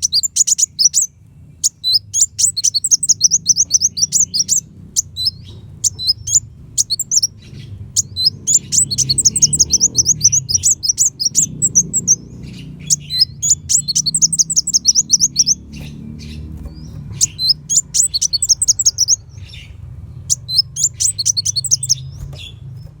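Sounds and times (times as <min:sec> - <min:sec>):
bird chirping high notes: 0:00.0 - 0:22.9
steady low hum: 0:00.0 - 0:23.0.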